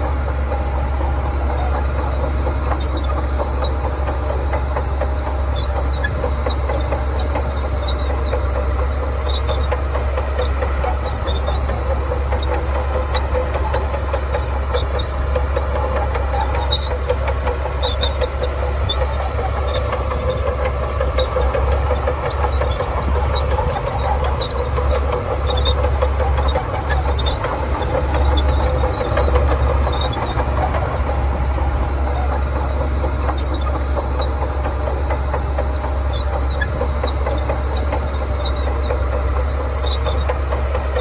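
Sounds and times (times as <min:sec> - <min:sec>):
bulldozer diesel engine rumbling: 0:00.0 - 0:41.0.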